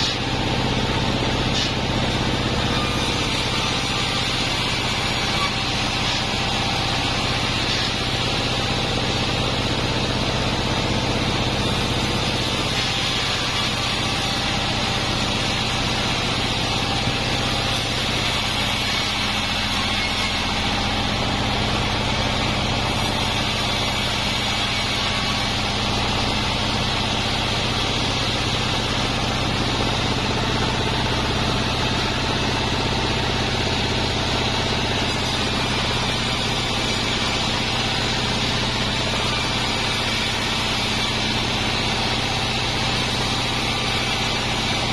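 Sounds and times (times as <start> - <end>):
band saw humming: 0.0 - 44.9.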